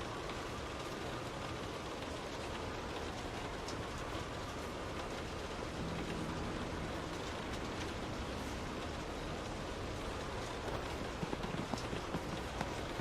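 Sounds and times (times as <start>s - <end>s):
rain on a window pane: 0.0s - 13.0s
raindrop ticks: 0.0s - 13.0s.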